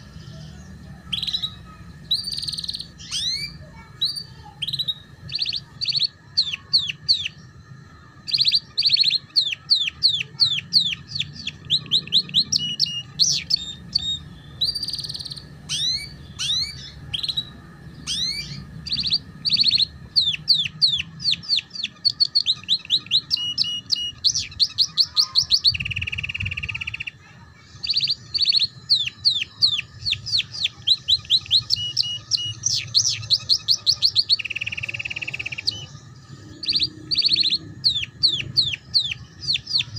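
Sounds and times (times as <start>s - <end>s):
canary singing trilled song: 0.0s - 39.9s
faint low hum: 0.0s - 39.9s.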